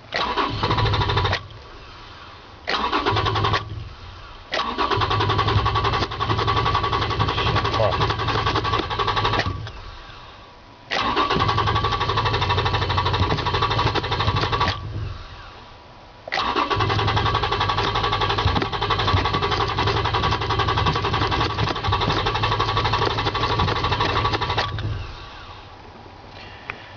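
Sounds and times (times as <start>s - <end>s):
engine cranked by starter: 0.0s - 1.6s, 2.6s - 10.2s, 10.9s - 15.6s, 16.3s - 25.8s.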